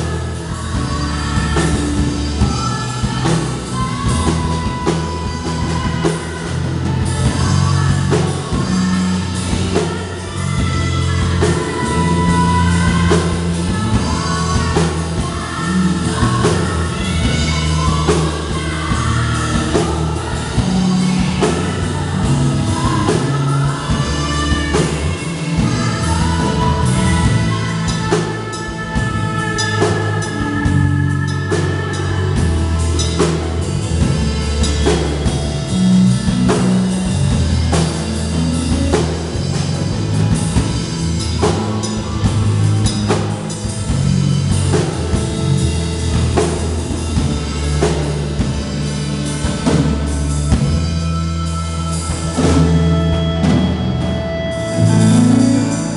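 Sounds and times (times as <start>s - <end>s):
drum kit steady beat: 0.0s - 55.9s
electric bass: 0.0s - 55.9s
electric guitar: 0.0s - 55.9s
keyboard: 0.0s - 55.9s.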